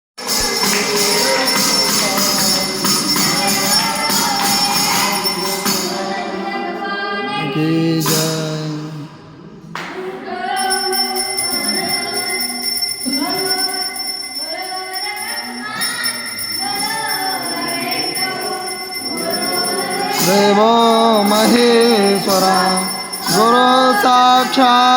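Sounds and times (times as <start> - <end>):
jingling hand percussion: 0.2 - 6.7, 7.9 - 8.8, 10.4 - 24.9
bell ringing: 0.2 - 6.8, 10.2 - 24.9
boys singing together: 0.2 - 24.9.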